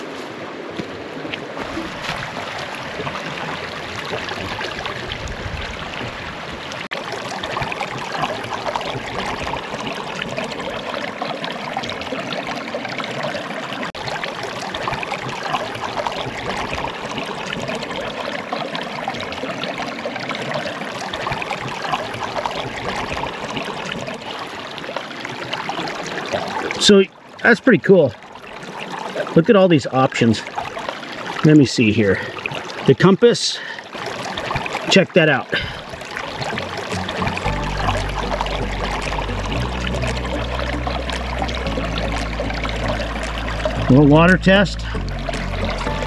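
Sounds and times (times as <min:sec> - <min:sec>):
water flowing around a hand: 0:00.0 - 0:27.4, 0:28.1 - 0:29.4, 0:30.1 - 0:33.0, 0:33.6 - 0:43.9
creek water trickling over rocks: 0:00.0 - 0:46.0.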